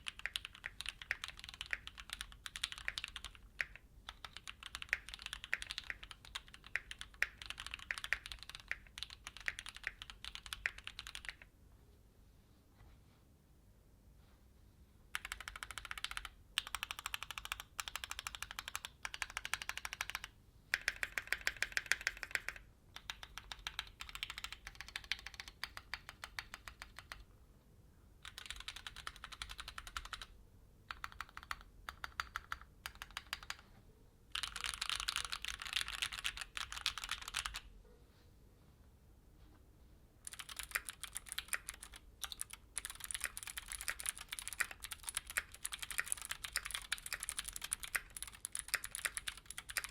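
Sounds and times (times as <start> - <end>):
mechanical keyboard typing: 0.0 - 11.5, 15.1 - 27.2, 28.2 - 30.3, 30.9 - 33.6, 34.3 - 37.7, 40.2 - 49.9.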